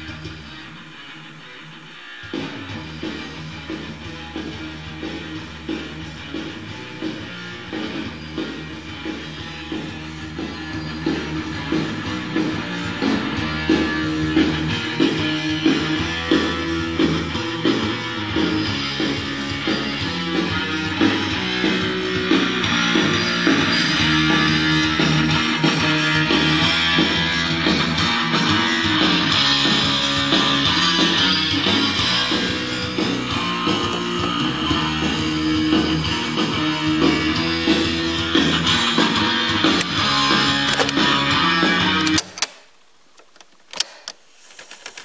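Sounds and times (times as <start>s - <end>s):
guitar music from cassette: 0.0s - 42.5s.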